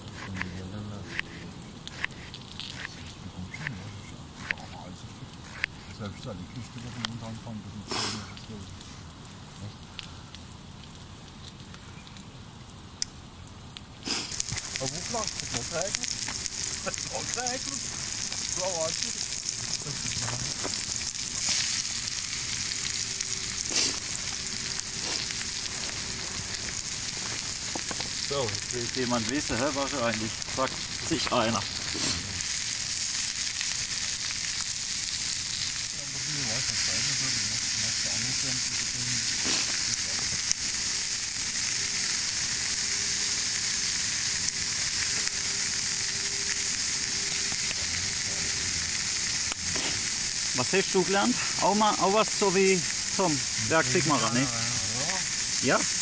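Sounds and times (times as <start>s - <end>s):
food sizzling in a pan: 3.6s - 9.9s, 14.0s - 56.0s.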